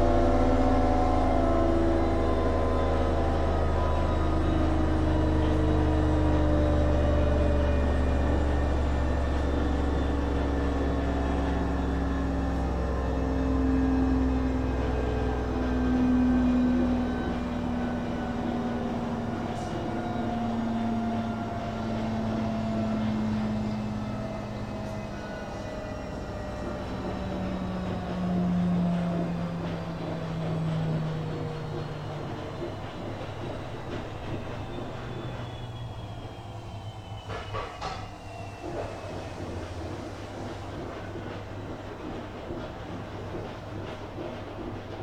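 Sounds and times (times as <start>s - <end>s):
low hum: 0.0s - 40.9s
washing machine motor whine: 0.0s - 45.0s.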